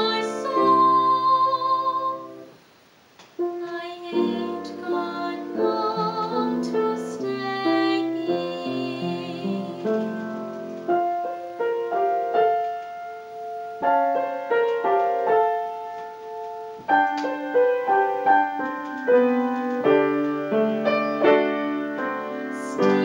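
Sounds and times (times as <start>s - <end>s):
piano chords and melody: 0.0s - 2.6s, 3.4s - 23.0s.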